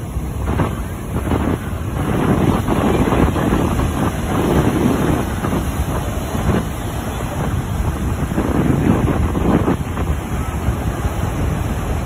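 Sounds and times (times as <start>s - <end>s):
breaking ocean surf: 0.0s - 12.0s
wind buffeting microphone: 0.0s - 12.0s.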